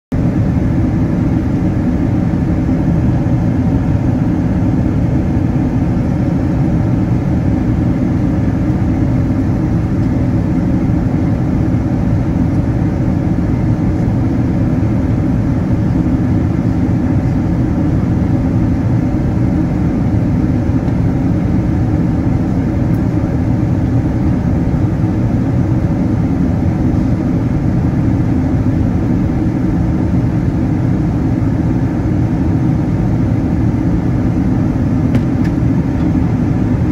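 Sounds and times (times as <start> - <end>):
jet engine drone in cabin: 0.1 - 36.9
faint hum: 0.2 - 36.9.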